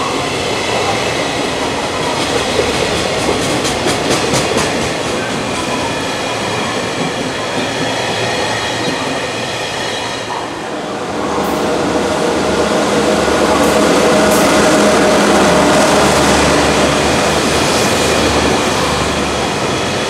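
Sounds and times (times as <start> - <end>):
freight train rumbling by: 0.0 - 20.0.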